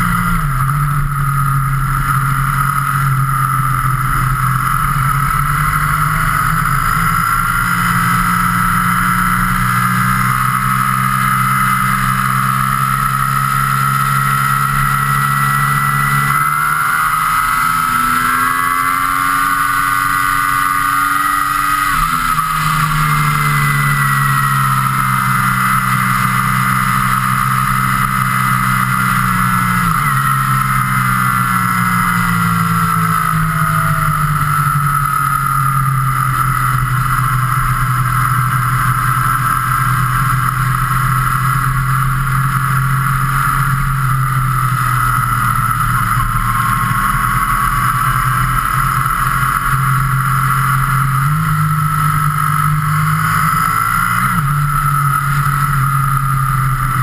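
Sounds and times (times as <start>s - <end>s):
road and wind noise: 0.0s - 57.0s
vehicle engine running steadily: 0.0s - 57.0s.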